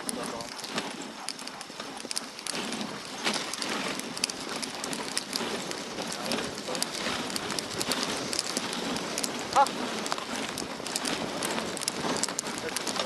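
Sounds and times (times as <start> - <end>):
sharp ticks and patters: 0.0 - 13.0
sled runners crunching on snow: 0.0 - 13.0.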